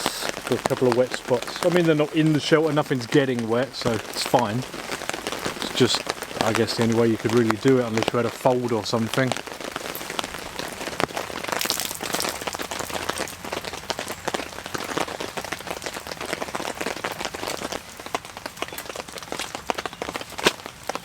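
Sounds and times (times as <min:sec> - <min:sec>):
heavy rain on a tent: 0:00.0 - 0:21.0.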